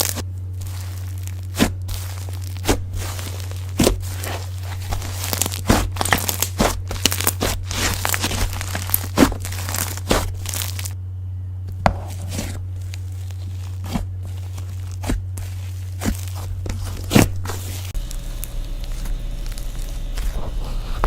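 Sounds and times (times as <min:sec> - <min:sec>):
slime crackling and popping: 0:00.0 - 0:11.0, 0:11.9 - 0:20.5
slime squished by hand: 0:00.0 - 0:11.0, 0:11.7 - 0:21.0
steady low hum: 0:00.0 - 0:21.0.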